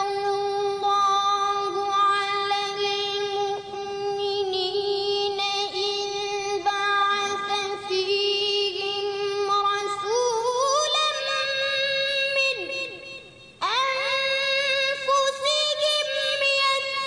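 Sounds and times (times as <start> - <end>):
boy reciting melodically: 0.0 - 17.0.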